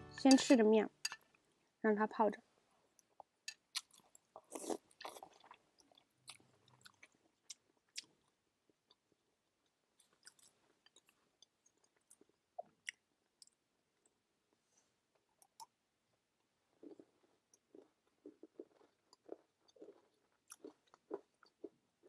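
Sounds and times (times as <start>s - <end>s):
person chewing noodles: 2.9s - 14.3s, 15.1s - 22.0s.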